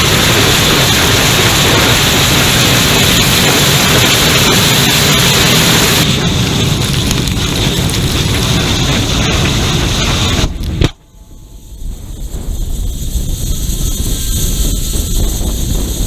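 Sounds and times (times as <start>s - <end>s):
rocket engine roaring: 0.0s - 16.0s.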